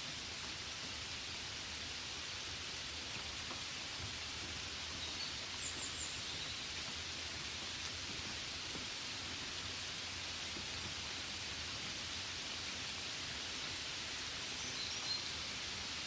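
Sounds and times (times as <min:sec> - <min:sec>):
rain on a window: 0:00.0 - 0:16.0.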